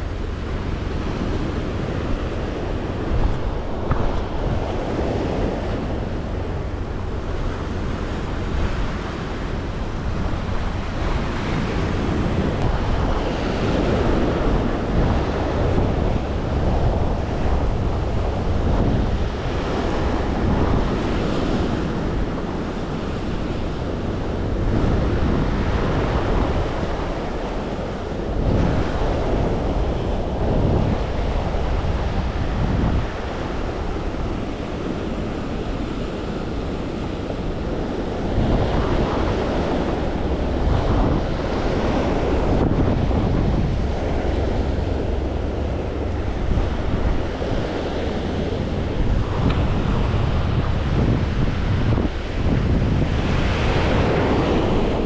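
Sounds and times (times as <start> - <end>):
sea waves washing on rocks: 0.0 - 55.0
wind rumbling on microphone: 0.0 - 55.0.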